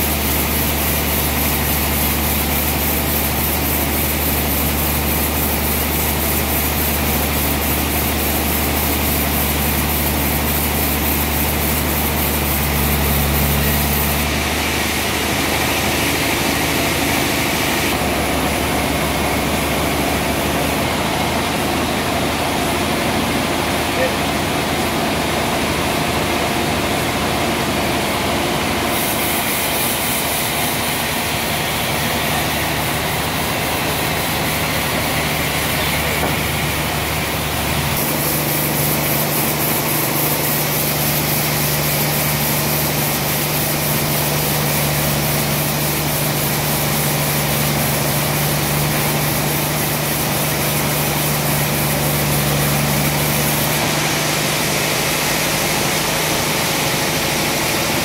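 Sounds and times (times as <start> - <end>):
sawmill machine hum: 0.0 - 58.0.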